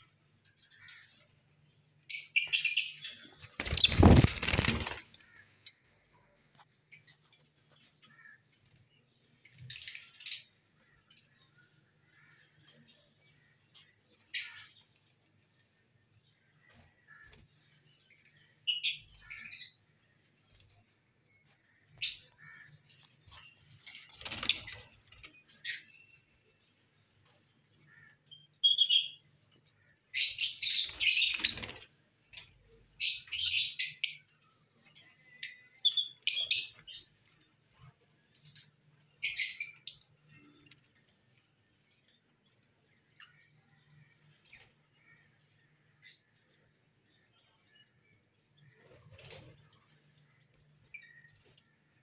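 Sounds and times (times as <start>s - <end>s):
lovebirds chirping and chattering: 0.0s - 52.0s.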